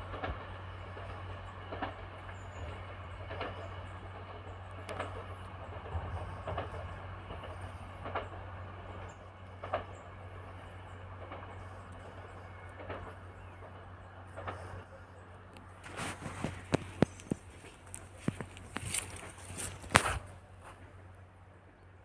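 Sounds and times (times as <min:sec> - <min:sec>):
diesel trains approaching: 0:00.0 - 0:22.0.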